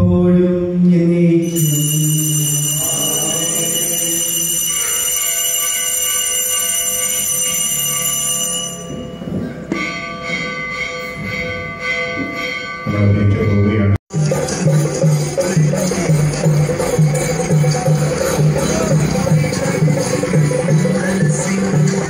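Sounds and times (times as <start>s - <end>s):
bells ringing: 1.4s - 22.0s.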